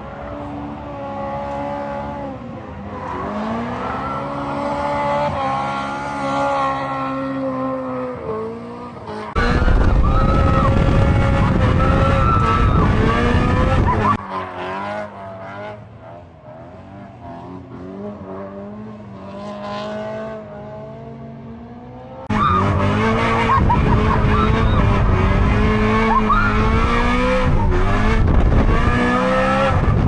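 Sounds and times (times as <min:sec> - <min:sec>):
engine at high revs: 0:00.0 - 0:30.0.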